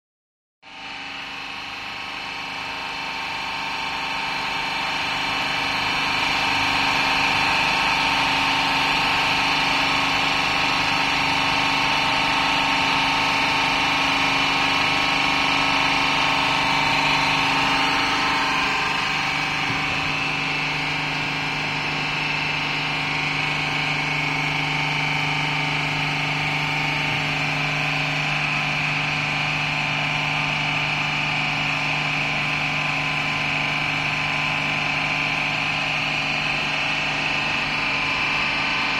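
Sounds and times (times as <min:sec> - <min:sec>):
hydraulic pump hum and whine: 0:00.6 - 0:38.9.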